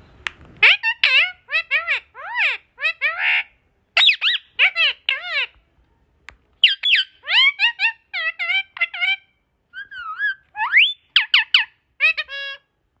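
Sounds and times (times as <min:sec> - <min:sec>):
parrot whistling chirps: 0:00.6 - 0:05.5, 0:06.6 - 0:12.6.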